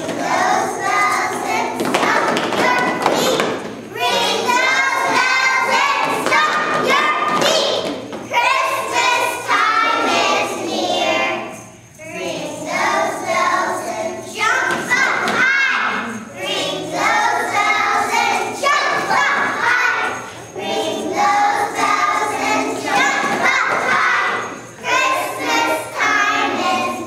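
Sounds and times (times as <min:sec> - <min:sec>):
children's choir singing: 0:00.0 - 0:27.0
small hand bells shaking: 0:00.0 - 0:27.0.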